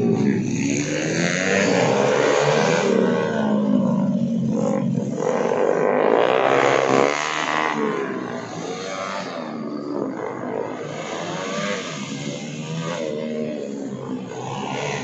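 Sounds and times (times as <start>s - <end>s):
motorcycles revving: 0.0s - 15.0s.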